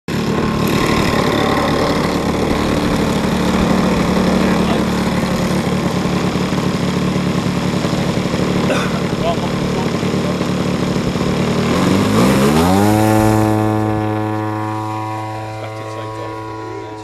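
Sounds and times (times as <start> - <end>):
model aeroplane engine idling: 0.1 - 17.0.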